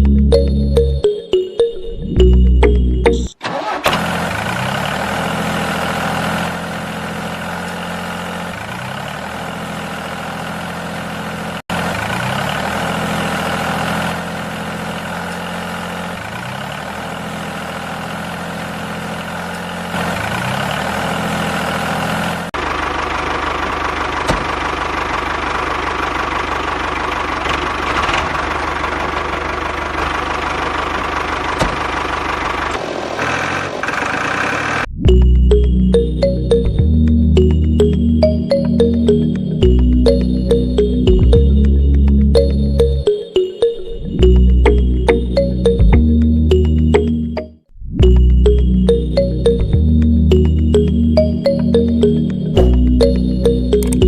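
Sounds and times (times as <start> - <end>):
engine chugging: 2.2 - 43.5, 44.2 - 47.1, 48.0 - 54.0.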